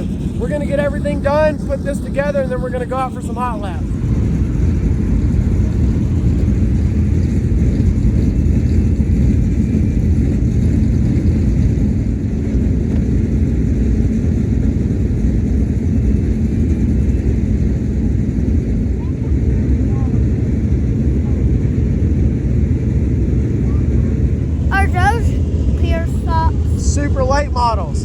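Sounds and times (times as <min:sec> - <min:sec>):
race car engines rumbling: 0:00.0 - 0:28.0.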